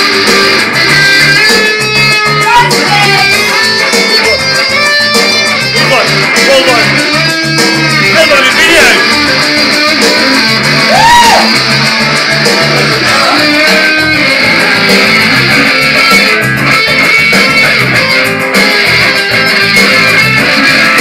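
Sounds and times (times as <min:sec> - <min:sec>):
electric guitar through amplifier: 0:00.0 - 0:21.0.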